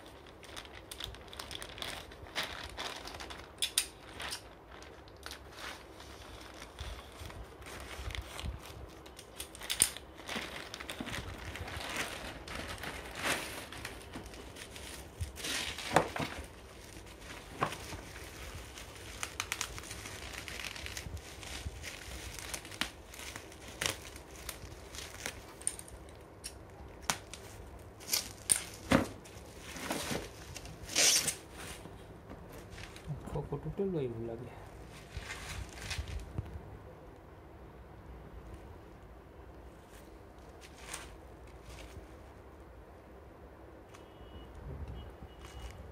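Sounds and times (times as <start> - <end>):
packaging rustling and crinkling: 0.0 - 33.9, 34.6 - 36.6, 39.8 - 42.4.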